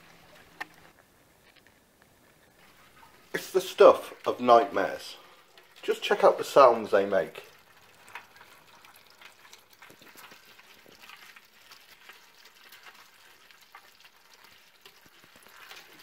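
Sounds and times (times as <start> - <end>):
crayfish shells clicking and scraping: 0.0 - 6.4, 7.2 - 16.0.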